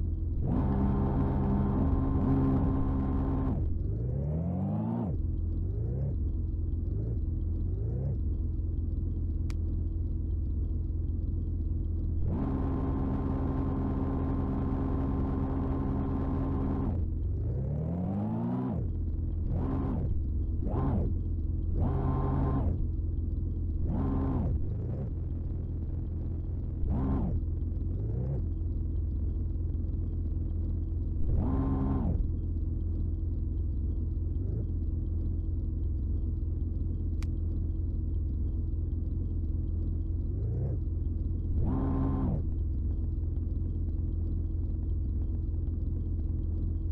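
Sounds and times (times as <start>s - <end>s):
heavy engine idling and revving: 0.0s - 46.9s.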